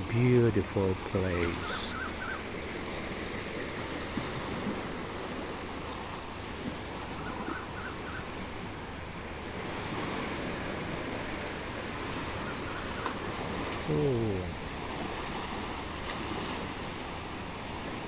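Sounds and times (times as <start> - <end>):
small waves washing on beach: 0.0 - 18.0.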